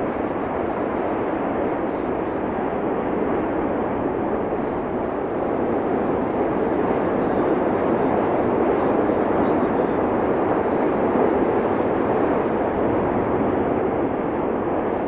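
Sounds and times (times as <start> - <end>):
volcanic eruption rushing: 0.0 - 15.0.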